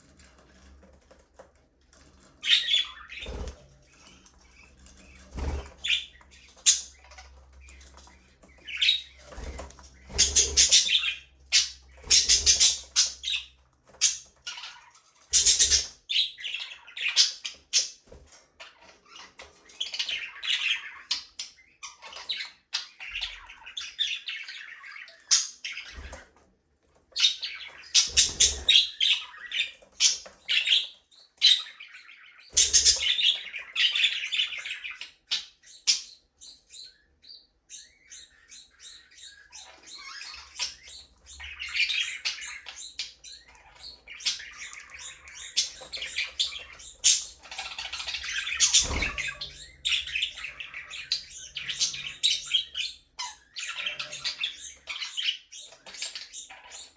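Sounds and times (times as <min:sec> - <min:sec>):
knocks of birds moving in cage: 0:00.0 - 0:37.2, 0:37.9 - 0:56.9
budgerigars chirping and chattering: 0:00.0 - 0:56.9.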